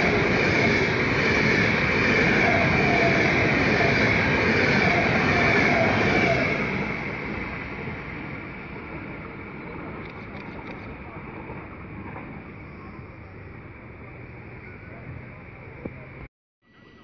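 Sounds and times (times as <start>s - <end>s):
train wheels rushing on rail: 0.0s - 15.2s.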